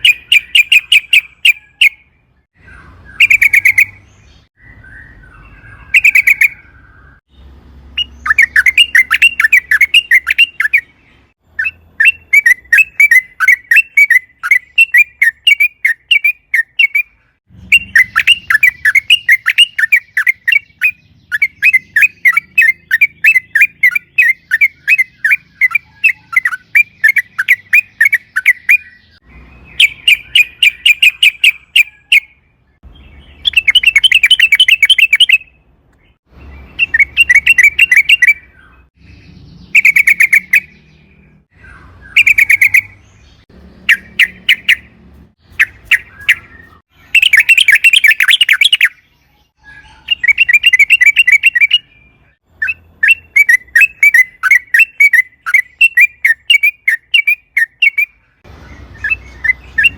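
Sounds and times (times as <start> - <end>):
bird singing bubbly notes: 0.0 - 59.9.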